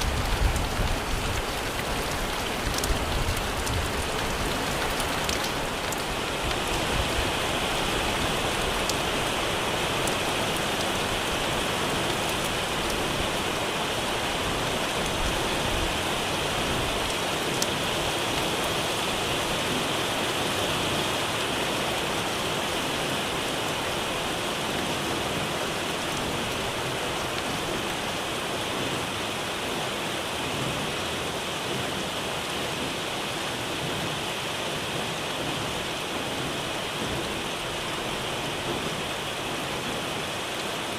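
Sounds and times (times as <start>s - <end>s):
heavy rain on the sea: 0.0s - 40.9s.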